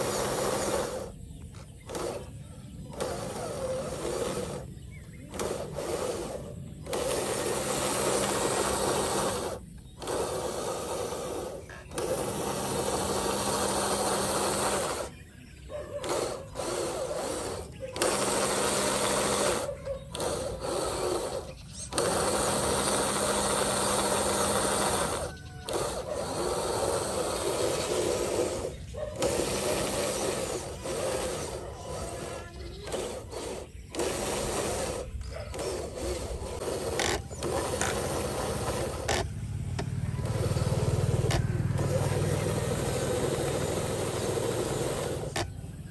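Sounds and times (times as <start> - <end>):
electric motor and gearbox whining: 0.0 - 45.9.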